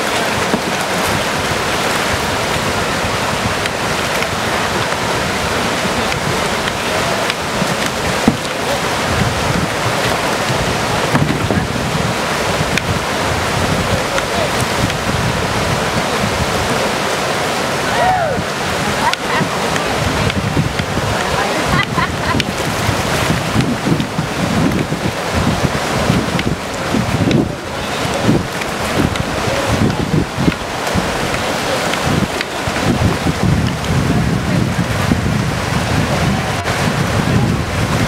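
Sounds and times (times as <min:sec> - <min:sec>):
whitewater rapid rushing: 0:00.0 - 0:38.0.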